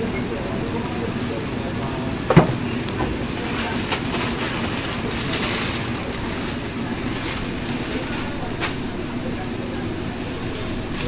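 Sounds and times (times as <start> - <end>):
gas burner running: 0.0 - 11.0
vegetables sizzling in a wok: 0.0 - 11.0.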